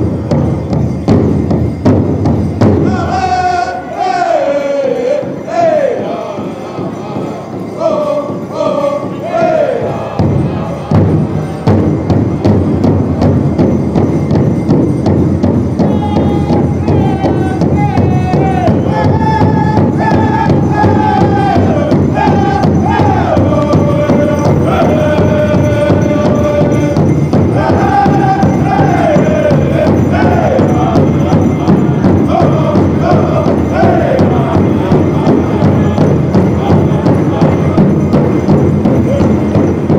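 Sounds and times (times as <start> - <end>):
large drum beating: 0.0 - 39.9
men singing high chants: 2.7 - 12.8, 15.8 - 39.9.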